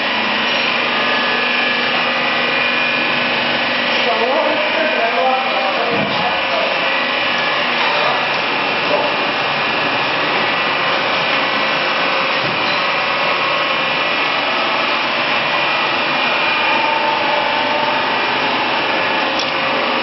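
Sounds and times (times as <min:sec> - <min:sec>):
knife grinder machine running: 0:00.0 - 0:20.0.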